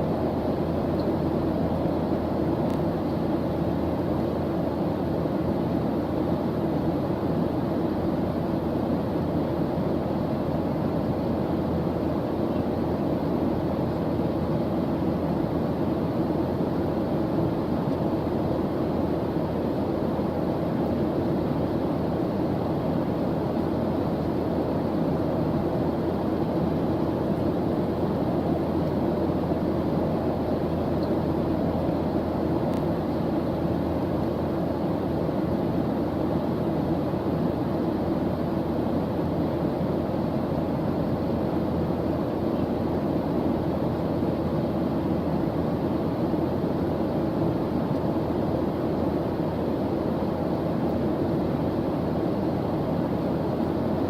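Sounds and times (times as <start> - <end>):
low white noise hiss: 0.0 - 54.0.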